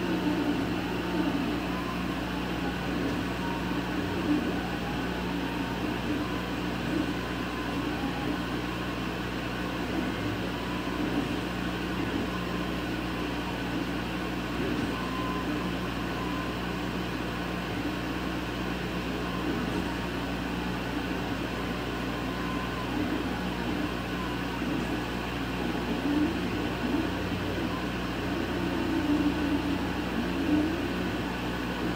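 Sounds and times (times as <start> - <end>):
laser cutter humming: 0.0 - 31.9.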